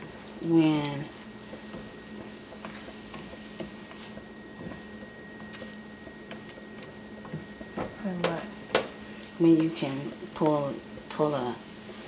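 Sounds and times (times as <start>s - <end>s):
spatula stirring eggs: 0.0s - 12.0s.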